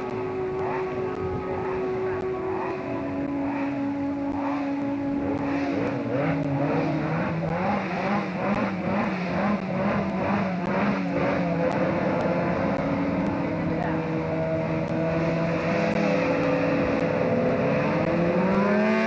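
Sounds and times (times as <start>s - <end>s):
rally car engine under load: 0.0s - 19.0s.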